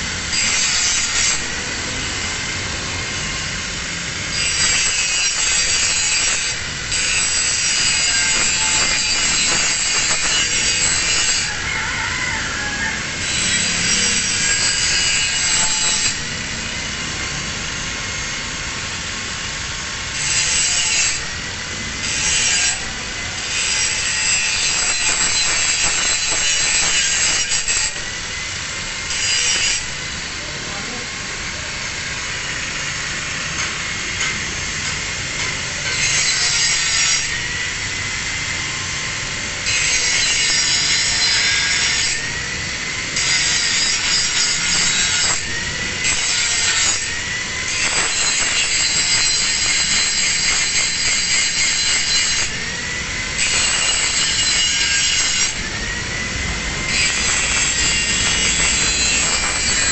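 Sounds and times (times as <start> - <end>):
angle grinder grinding steel: 0.0 - 59.9.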